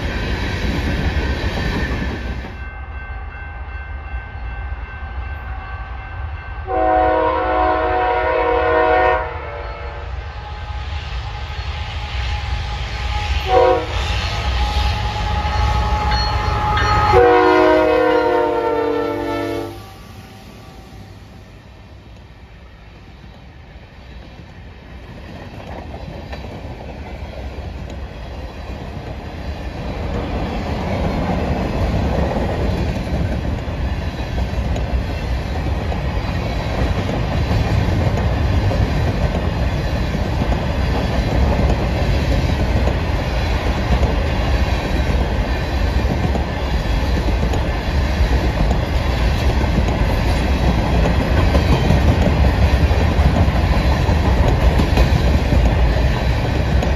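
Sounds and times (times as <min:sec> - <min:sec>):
freight train rolling past: 0:00.0 - 0:56.9.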